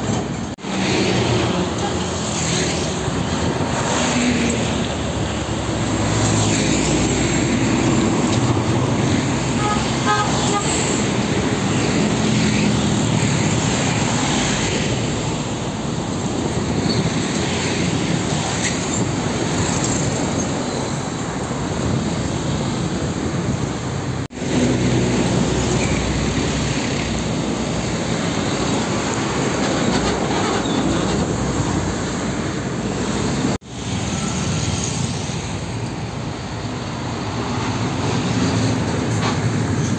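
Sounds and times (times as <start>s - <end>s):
diesel trucks passing: 0.0s - 39.9s
tyre and traffic noise: 0.0s - 39.9s.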